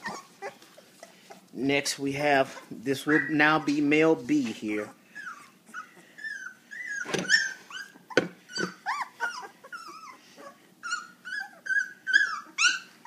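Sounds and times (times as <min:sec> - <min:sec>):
puppies whimpering and squealing: 0:00.0 - 0:13.0.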